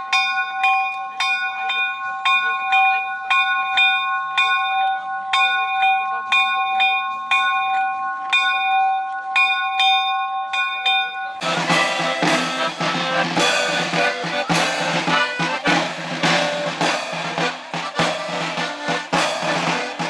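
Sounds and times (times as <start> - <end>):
bell ringing: 0.0 - 20.0.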